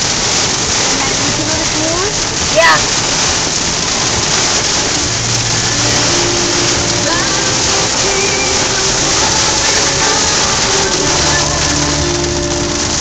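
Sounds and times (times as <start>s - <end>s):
torrential rain on car roof: 0.0s - 13.0s.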